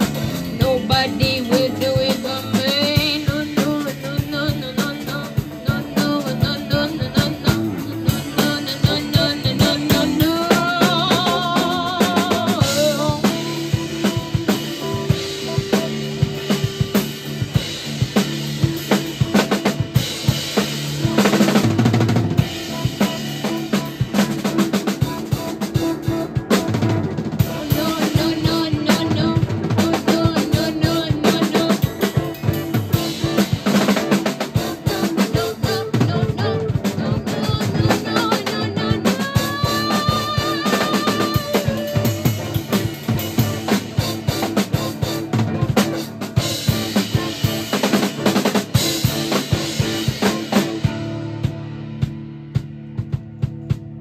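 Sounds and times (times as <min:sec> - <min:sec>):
bass line: 0:00.0 - 0:54.0
live band playing: 0:00.0 - 0:54.0.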